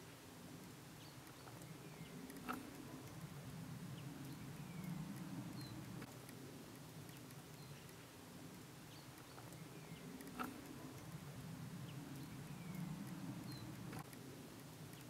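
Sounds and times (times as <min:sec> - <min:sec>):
small birds chirping: 0:00.0 - 0:15.0
faint distant rumble: 0:01.4 - 0:08.6, 0:09.2 - 0:14.1.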